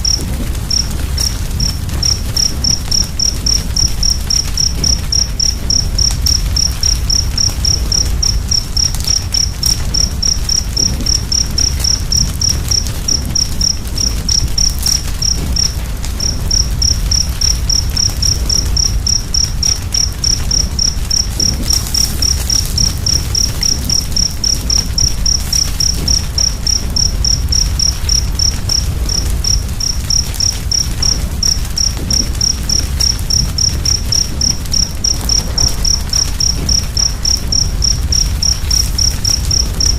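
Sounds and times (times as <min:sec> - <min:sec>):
cricket chirping: 0:00.0 - 0:39.9
low rumble: 0:00.0 - 0:39.9
open fire crackling: 0:00.0 - 0:39.9.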